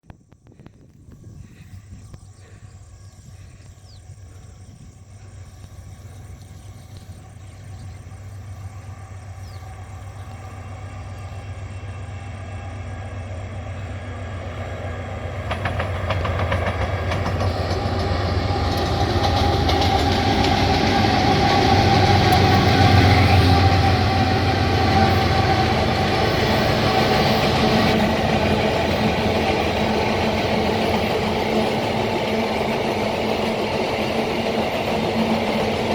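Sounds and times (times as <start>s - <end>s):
wheels rumbling on rails: 0.1s - 35.9s
train engine drone: 0.2s - 35.9s.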